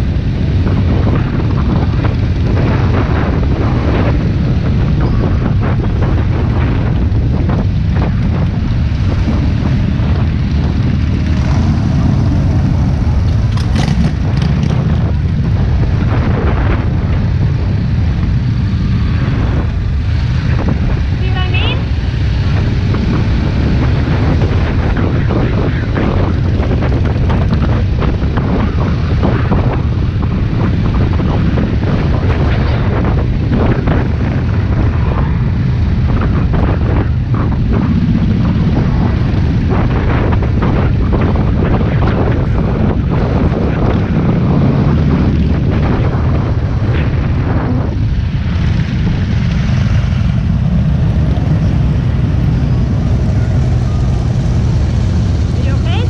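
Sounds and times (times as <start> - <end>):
motorcycle engines droning: 0.0 - 56.0
wind buffeting microphone: 0.0 - 56.0.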